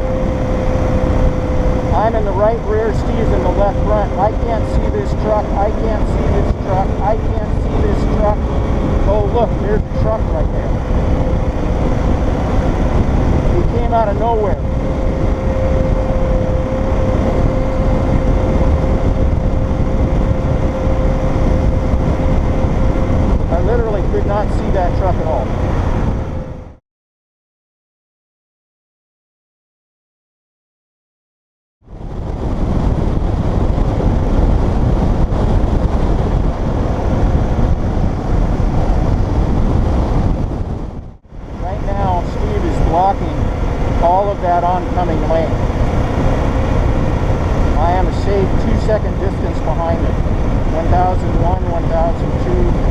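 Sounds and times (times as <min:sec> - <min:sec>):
motorcycle engine rumble: 0:00.0 - 0:26.8, 0:32.0 - 0:52.9
road noise: 0:00.0 - 0:26.8, 0:31.8 - 0:52.9
steady hum: 0:00.0 - 0:26.8, 0:32.0 - 0:52.9
wind on microphone: 0:00.0 - 0:26.8, 0:31.8 - 0:52.9.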